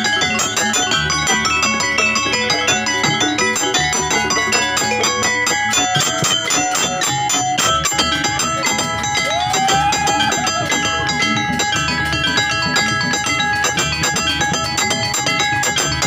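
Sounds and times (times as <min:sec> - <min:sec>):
fast hand drumming: 0:00.0 - 0:16.0
ringing pitched percussion: 0:00.0 - 0:16.0.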